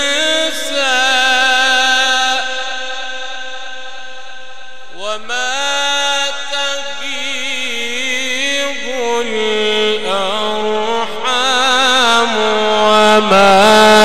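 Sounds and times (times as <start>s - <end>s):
man chanting melodic recitation: 0.0s - 4.1s, 4.9s - 14.0s.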